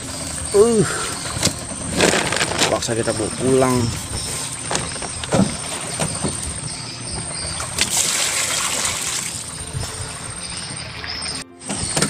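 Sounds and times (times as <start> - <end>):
water pouring and splashing: 0.2 - 11.5.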